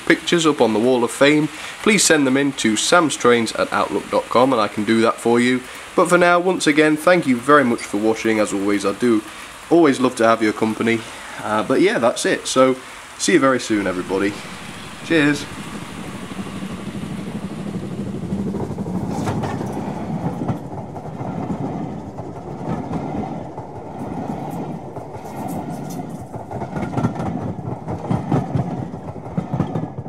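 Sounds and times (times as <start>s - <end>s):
train rumbling past: 0.0s - 30.0s
wheels clicking on rails: 0.0s - 30.0s.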